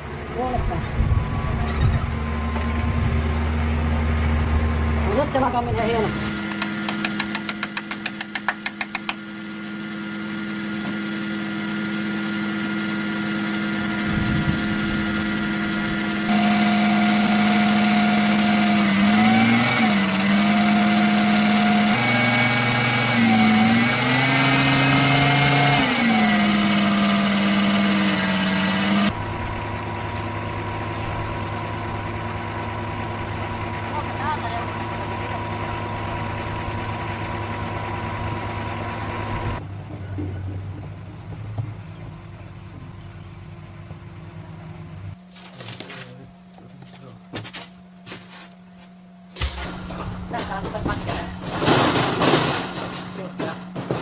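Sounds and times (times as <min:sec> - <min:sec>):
machine motor humming: 0:00.0 - 0:39.6, 0:49.3 - 0:54.0.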